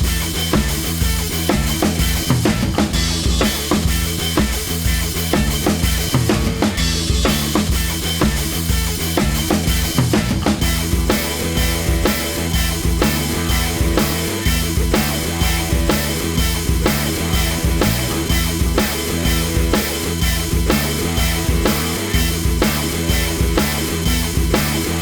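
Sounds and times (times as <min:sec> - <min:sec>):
rock music with drums: 0:00.0 - 0:25.0.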